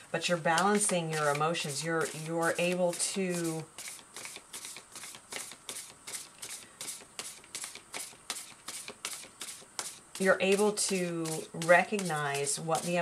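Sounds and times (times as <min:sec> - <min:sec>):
cards being shuffled by hand: 0:00.2 - 0:13.0.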